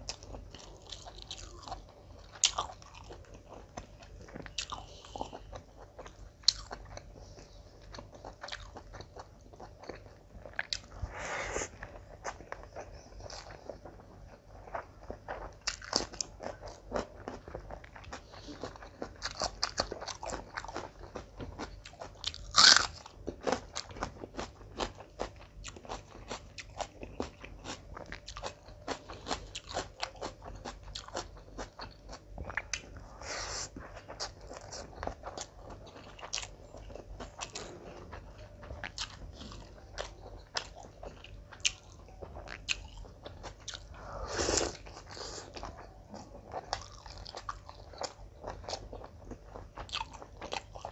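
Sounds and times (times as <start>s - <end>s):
person chewing food: 0.0s - 50.9s.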